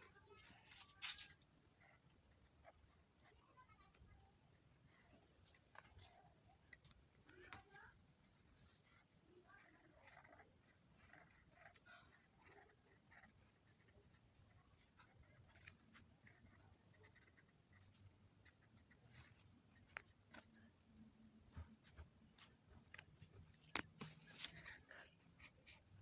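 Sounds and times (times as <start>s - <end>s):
marker scratching on paper: 0.0s - 20.7s, 21.5s - 26.0s.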